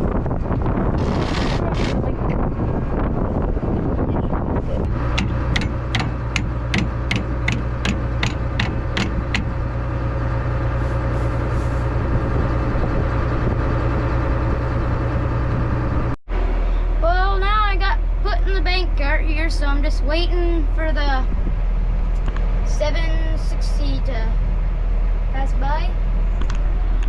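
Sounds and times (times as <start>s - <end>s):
vehicle engine idling: 0.1s - 27.0s.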